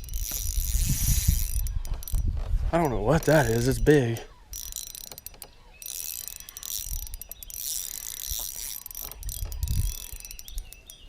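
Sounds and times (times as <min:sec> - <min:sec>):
fishing reel ratcheting: 0:00.0 - 0:11.0.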